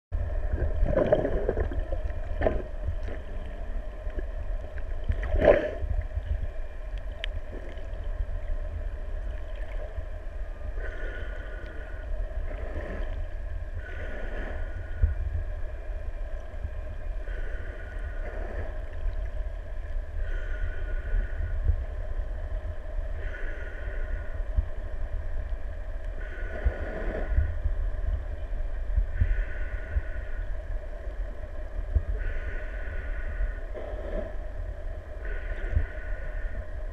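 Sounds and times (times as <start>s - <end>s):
steady humming tones: 0.1s - 36.9s
underwater low rumble: 0.1s - 36.9s.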